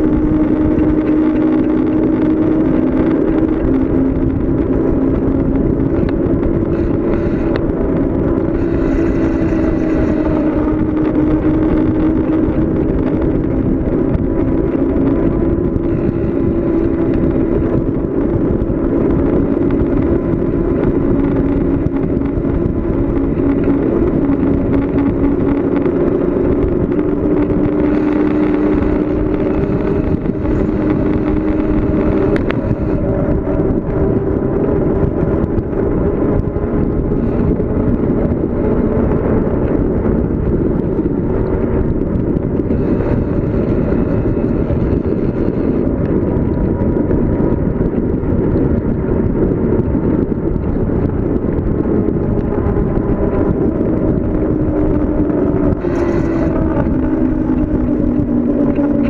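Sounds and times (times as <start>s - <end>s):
droning hum: 0.0s - 59.0s
rushing wind and road noise: 0.0s - 59.0s.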